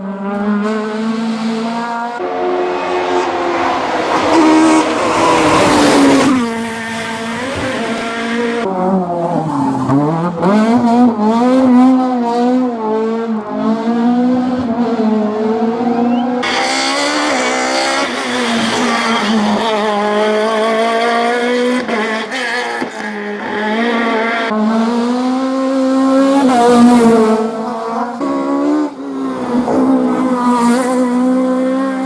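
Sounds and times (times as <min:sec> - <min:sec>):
rally car engine revving hard: 0:00.0 - 0:32.0.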